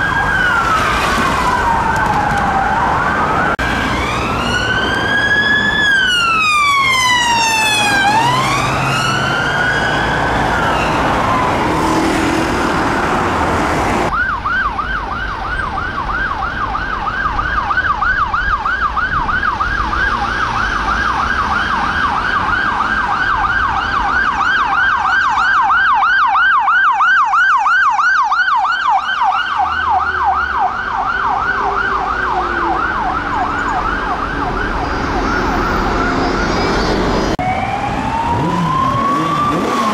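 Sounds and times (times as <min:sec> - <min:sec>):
siren yelping: 0:00.0 - 0:12.8, 0:14.1 - 0:39.9
city traffic: 0:00.0 - 0:39.9
siren wailing: 0:00.0 - 0:39.9.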